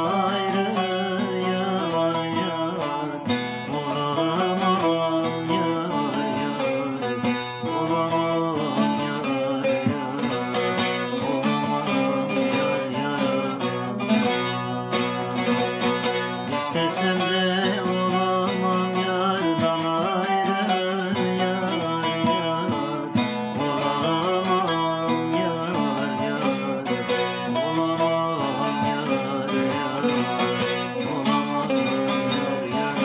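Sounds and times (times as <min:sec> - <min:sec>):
long-necked lute strummed rapidly: 0:00.0 - 0:33.0.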